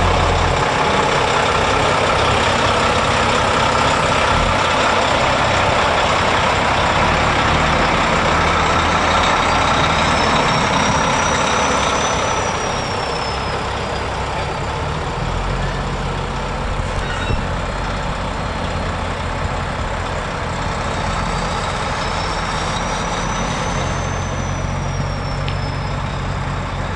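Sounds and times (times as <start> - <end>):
heavy trucks passing: 0.0 - 26.9.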